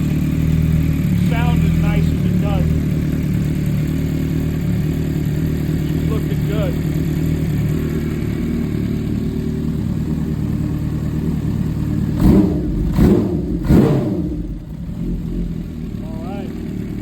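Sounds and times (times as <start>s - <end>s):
motorcycle engine idling: 0.0s - 17.0s
motorcycle engine revving: 0.0s - 17.0s.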